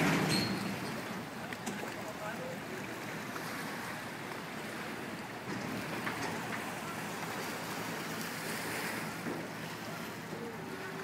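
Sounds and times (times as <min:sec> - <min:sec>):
propeller churning water: 0:00.0 - 0:11.0.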